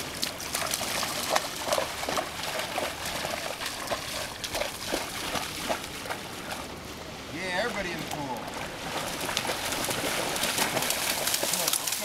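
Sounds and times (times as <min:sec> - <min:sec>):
dogs splashing in water: 0:00.0 - 0:06.7, 0:08.4 - 0:12.0
steady water wash: 0:00.0 - 0:12.0.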